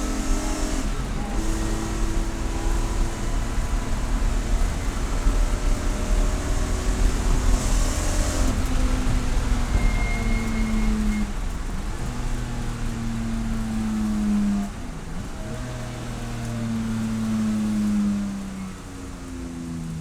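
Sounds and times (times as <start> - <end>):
race car engine at speed: 0.0 - 20.0.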